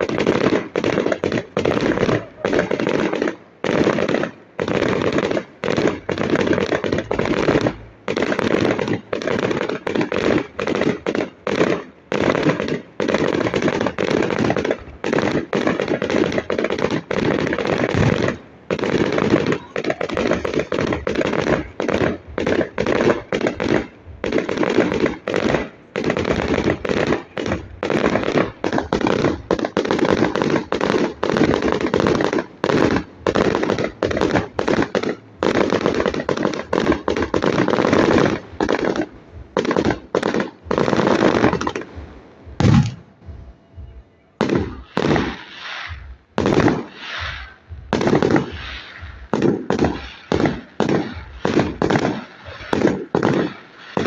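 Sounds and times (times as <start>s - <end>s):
fireworks bangs and crackles: 0.0s - 43.4s, 44.4s - 54.0s.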